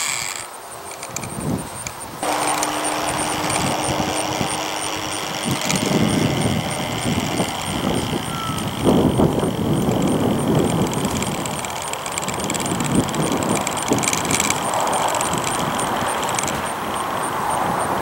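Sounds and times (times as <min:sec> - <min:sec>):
model airplane motor droning: 0:00.0 - 0:18.0.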